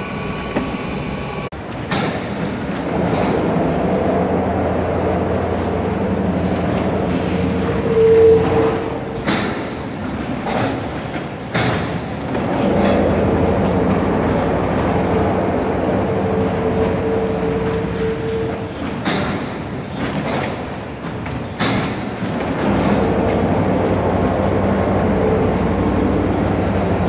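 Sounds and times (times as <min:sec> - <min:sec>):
roller machine humming and rumbling: 0:00.0 - 0:27.0.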